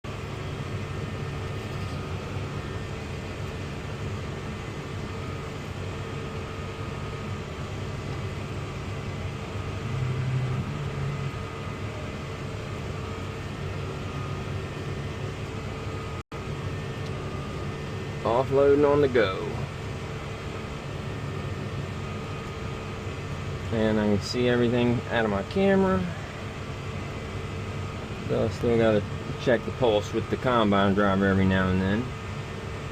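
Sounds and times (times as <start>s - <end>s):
tractor engine droning: 0.0s - 32.9s.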